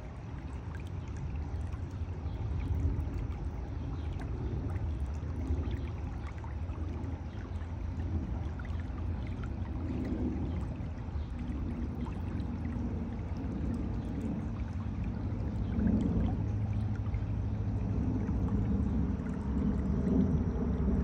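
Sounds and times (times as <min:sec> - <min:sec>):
water rushing from culvert: 0:00.0 - 0:21.0.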